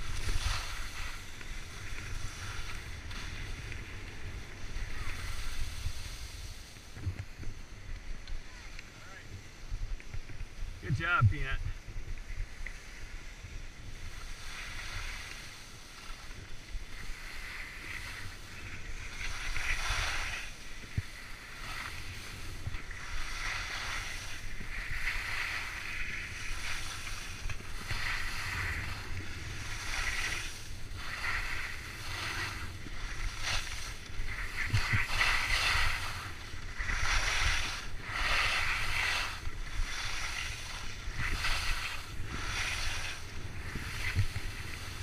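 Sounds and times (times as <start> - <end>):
skis scraping on snow: 0.0 - 45.0
wind rumble on microphone: 0.0 - 45.0.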